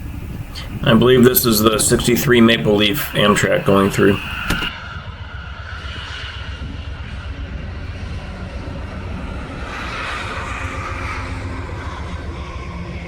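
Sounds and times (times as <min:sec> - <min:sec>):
train passing: 0:00.0 - 0:13.0
wheels hissing on rail: 0:00.0 - 0:13.0.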